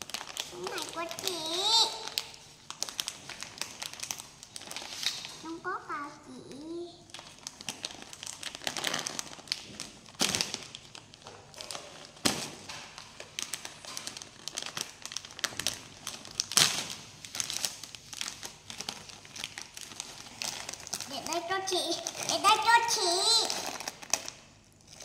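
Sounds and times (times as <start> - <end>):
plastic snack bag crinkling: 0.0 - 6.1, 6.7 - 25.0.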